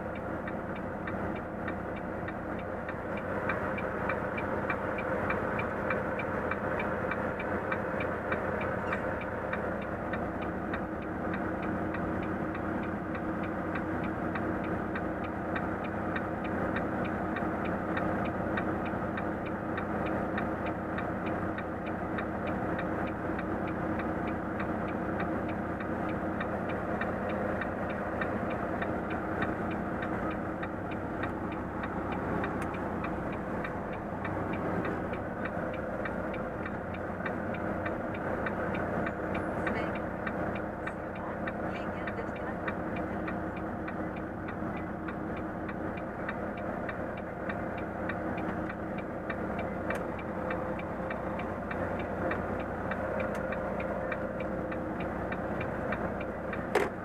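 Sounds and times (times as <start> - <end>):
truck diesel engine running: 0.0 - 57.0
turn signal ticking: 0.0 - 57.0.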